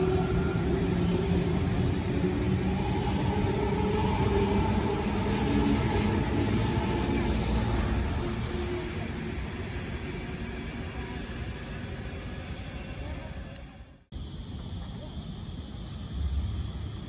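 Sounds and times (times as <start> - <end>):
electric train rumble and hum: 0.0 - 17.0.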